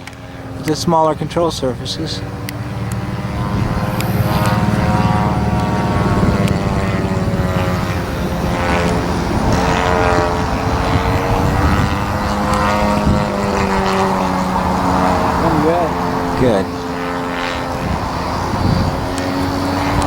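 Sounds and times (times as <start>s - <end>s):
model plane engine and propeller: 0.0s - 20.0s.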